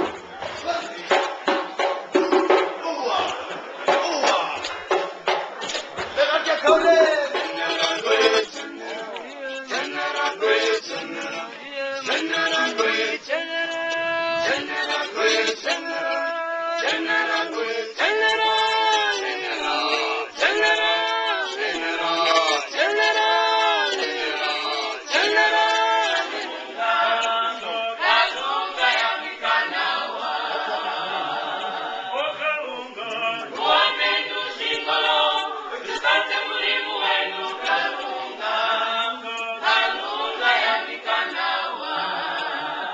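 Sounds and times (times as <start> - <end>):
choir singing in harmony: 6.2 - 42.9.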